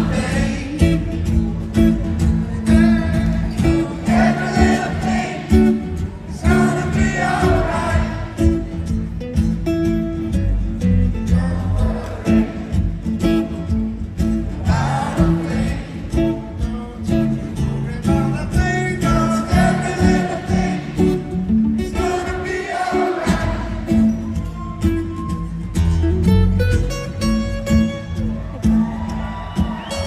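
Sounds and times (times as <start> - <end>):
band playing guitar bass drums: 0.0 - 30.0.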